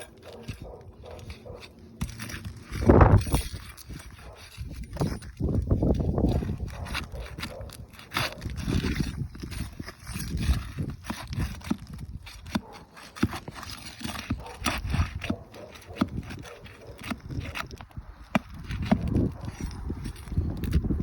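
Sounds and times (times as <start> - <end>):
granules crunching: 0.0 - 21.0
shingles clicking and scraping: 0.0 - 21.0.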